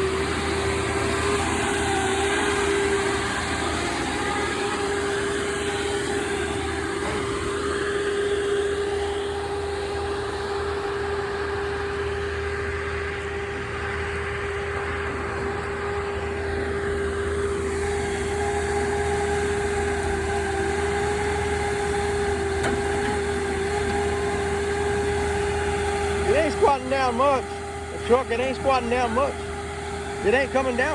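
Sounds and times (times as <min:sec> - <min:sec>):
engine droning: 0:00.0 - 0:30.9.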